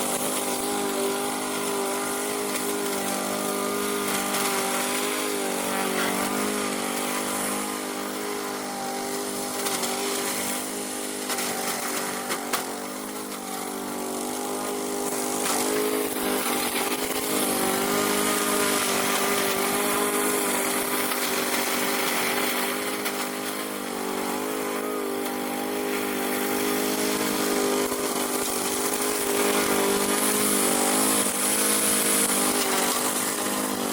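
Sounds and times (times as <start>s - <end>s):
lawn mower engine running: 0.0s - 33.9s.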